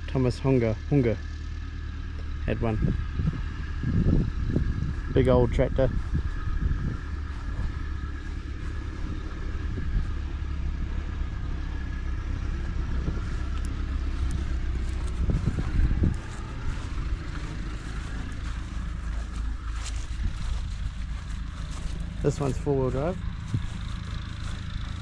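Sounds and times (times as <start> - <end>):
tractor engine rumbling: 0.0 - 25.0.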